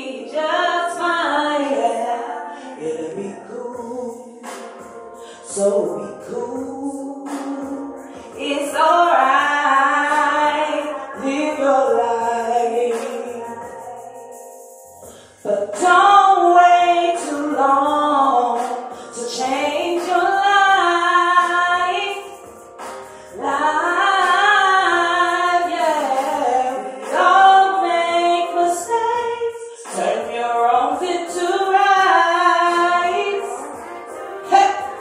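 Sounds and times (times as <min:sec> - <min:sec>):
woman singing slow melody: 0:00.0 - 0:04.2, 0:05.4 - 0:14.8, 0:15.4 - 0:22.4, 0:23.3 - 0:35.0.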